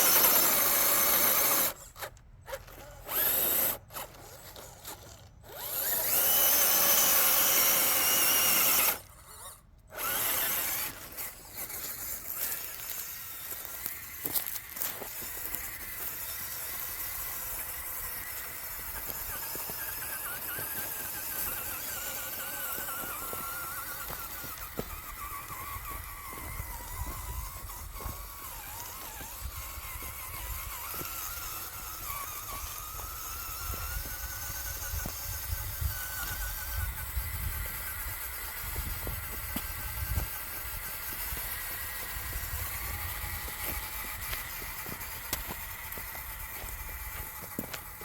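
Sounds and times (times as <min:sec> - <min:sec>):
electric motor and gearing whining: 0:00.0 - 0:48.0.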